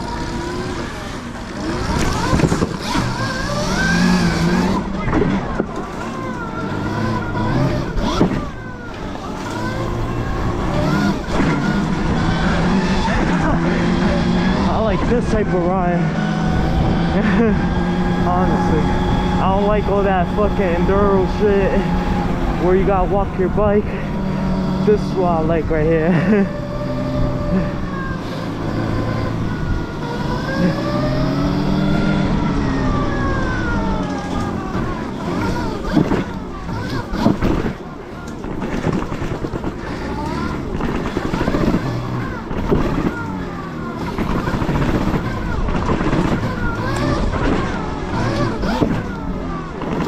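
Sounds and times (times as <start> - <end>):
electric motor whine: 0.0 - 50.0.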